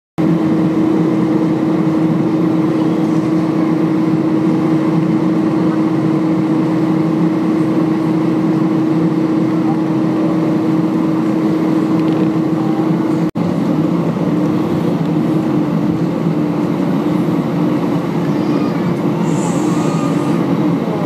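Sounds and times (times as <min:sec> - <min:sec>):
jet engine hum in cabin: 0:00.2 - 0:21.0.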